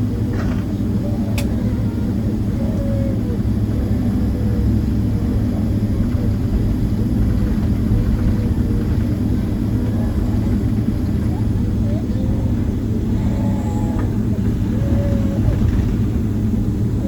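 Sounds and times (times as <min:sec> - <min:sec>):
cabin air flow: 0:00.0 - 0:17.0
jet engines running at low power: 0:00.0 - 0:17.0.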